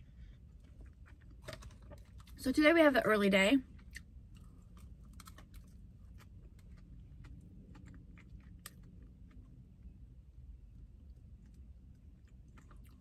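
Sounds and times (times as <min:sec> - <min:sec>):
person chewing: 0:00.1 - 0:02.4, 0:03.7 - 0:09.9, 0:11.0 - 0:13.0.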